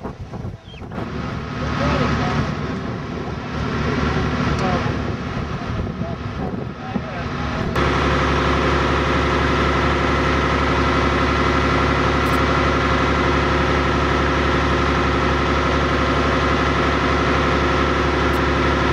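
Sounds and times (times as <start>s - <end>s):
ferry engine running: 0.0s - 18.9s.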